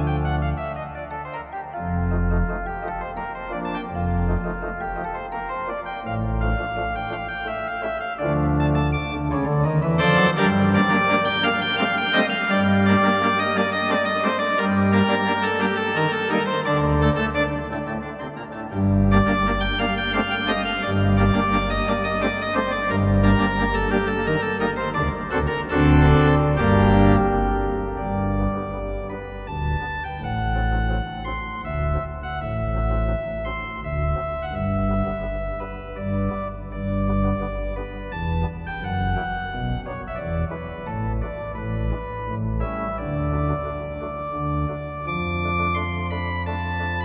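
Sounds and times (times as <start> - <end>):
church organ chords: 0.0 - 47.0
deep organ pedal bass notes: 0.0 - 47.0.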